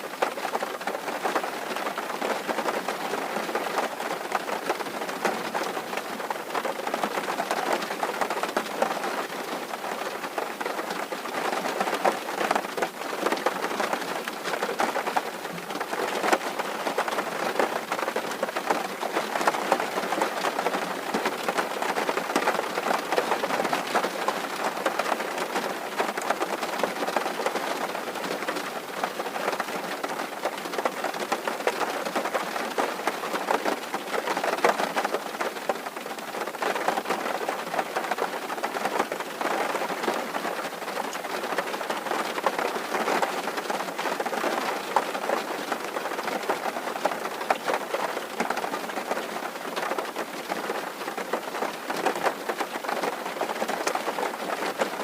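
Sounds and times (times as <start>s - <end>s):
rain on a tin roof: 0.0s - 55.0s.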